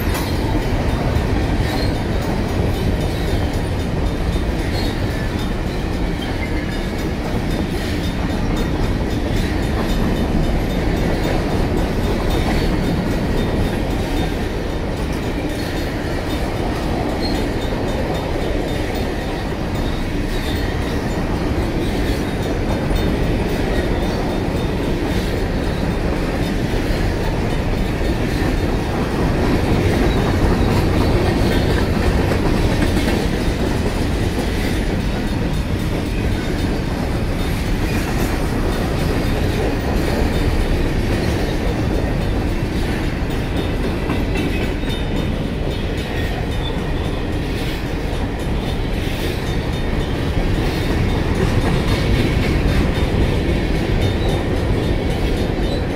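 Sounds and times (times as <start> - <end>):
crossing warning bells ringing: 0.0 - 55.9
freight train rolling past: 0.0 - 55.9.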